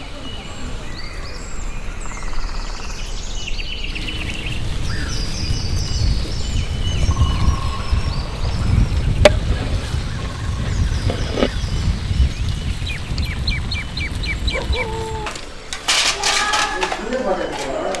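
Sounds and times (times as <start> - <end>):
steady low rumble: 0.0 - 15.7
birds chirping: 0.0 - 18.0.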